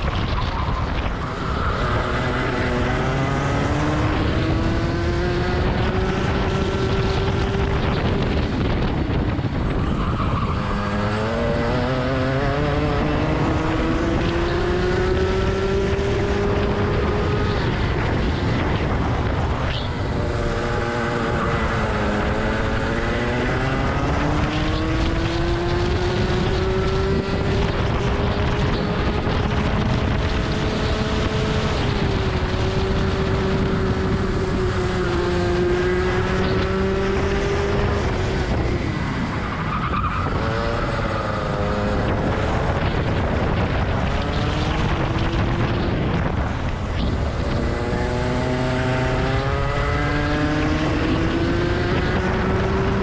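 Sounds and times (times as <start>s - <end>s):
kart engine at full throttle: 0.0s - 53.0s
wind rush on microphone: 0.0s - 53.0s.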